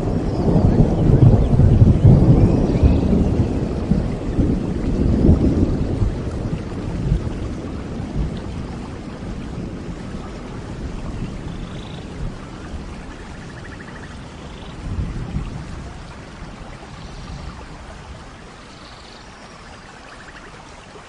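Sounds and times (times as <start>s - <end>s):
thunder rolling: 0.0s - 18.3s
steady rain: 0.0s - 21.0s.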